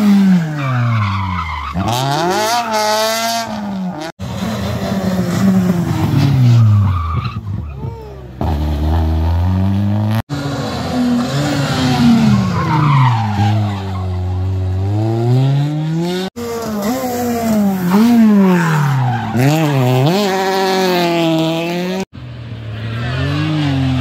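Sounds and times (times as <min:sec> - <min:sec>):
rally car engines braking and shifting: 0:00.0 - 0:24.0.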